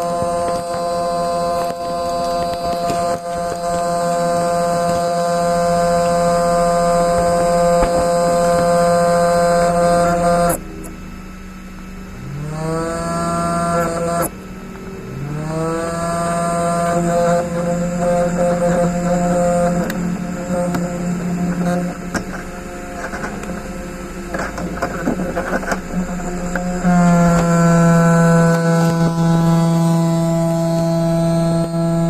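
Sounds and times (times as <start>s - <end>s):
electrical hum with whine: 0.0s - 32.0s.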